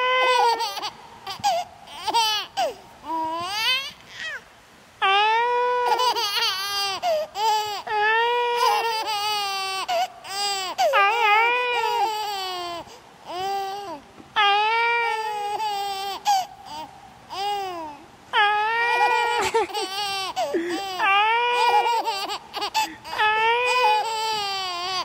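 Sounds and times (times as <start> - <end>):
baby crying: 0.0 - 4.4, 5.0 - 25.0.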